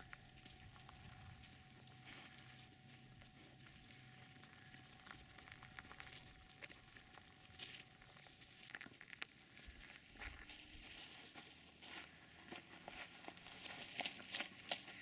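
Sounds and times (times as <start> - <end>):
faint rustling with crackles: 0.0 - 15.0.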